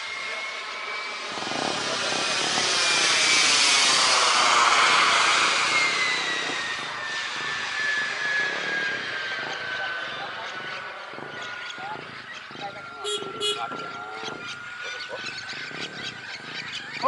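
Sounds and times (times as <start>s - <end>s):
model jet turbine whine: 0.0s - 17.0s.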